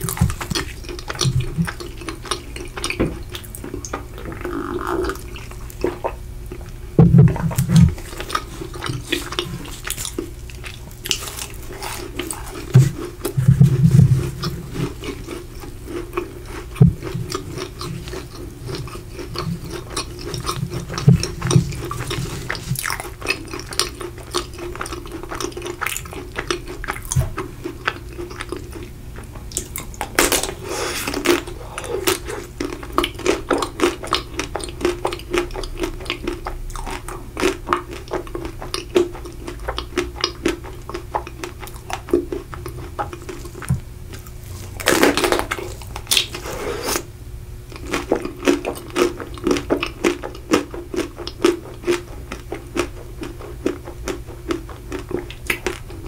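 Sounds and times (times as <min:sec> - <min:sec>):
chewing and crunching: 0:00.0 - 0:47.1, 0:47.7 - 0:56.0
faint steady hum: 0:00.0 - 0:56.0.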